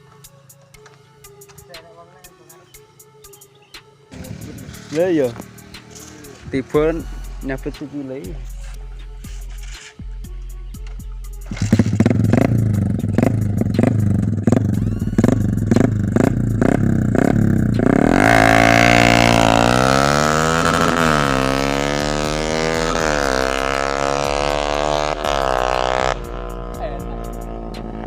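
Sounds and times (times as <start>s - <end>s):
motorcycle engines revving: 4.1s - 10.0s, 11.3s - 28.0s.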